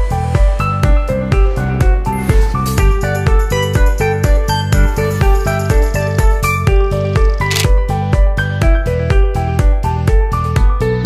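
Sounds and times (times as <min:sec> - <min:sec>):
upbeat music with plucked notes: 0:00.0 - 0:11.0.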